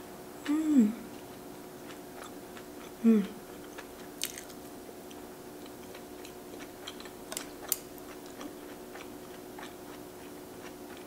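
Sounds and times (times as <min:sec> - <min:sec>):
steady low hum: 0:00.0 - 0:11.0
chewing with wet mouth clicks: 0:01.1 - 0:11.0.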